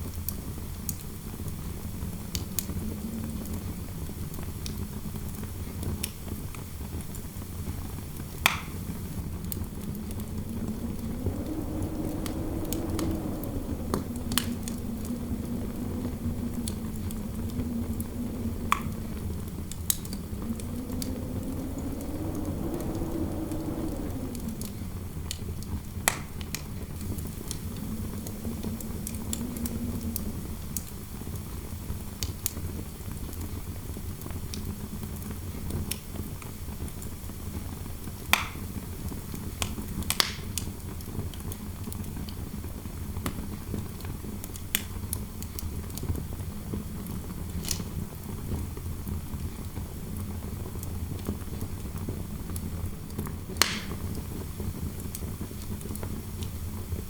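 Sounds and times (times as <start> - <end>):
fire crackling and popping: 0.0 - 32.6, 38.3 - 42.1, 42.8 - 57.0
low wind rumble: 0.1 - 37.5, 38.9 - 57.0
wavering wind howl: 0.6 - 6.3, 7.4 - 32.8, 41.7 - 57.0.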